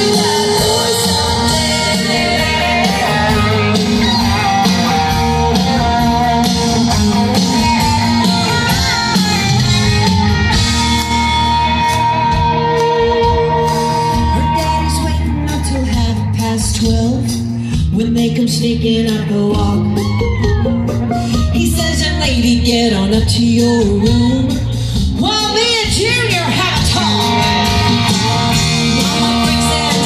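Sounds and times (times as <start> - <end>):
live country band playing: 0.0 - 30.0.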